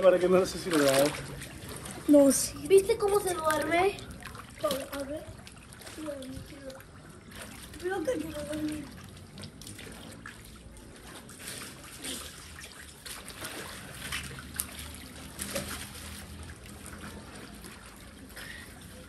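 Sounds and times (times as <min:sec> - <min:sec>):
pool water lapping and trickling: 0:00.0 - 0:19.0
small water splashes: 0:00.0 - 0:19.0.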